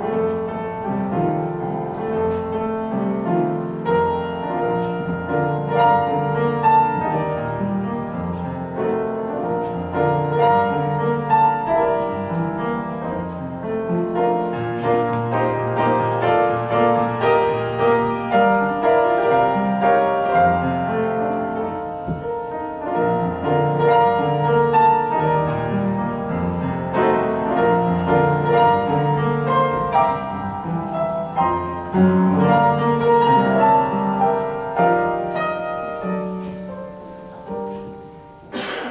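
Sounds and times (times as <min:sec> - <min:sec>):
solo piano piece: 0:00.0 - 0:38.9.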